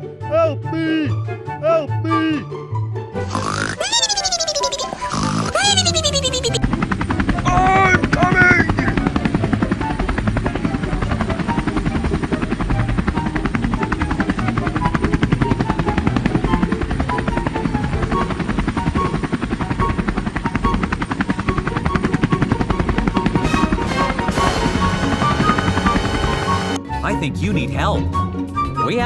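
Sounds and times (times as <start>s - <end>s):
cartoon motor thrumming: 3.2s - 26.8s.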